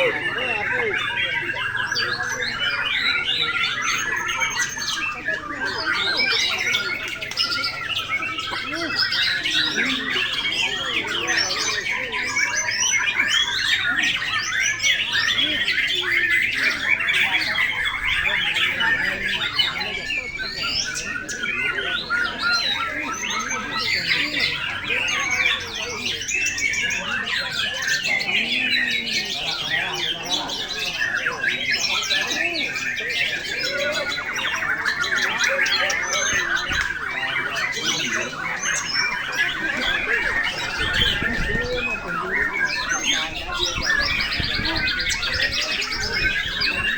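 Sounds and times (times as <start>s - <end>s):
chorus of songbirds singing: 0.0s - 46.9s.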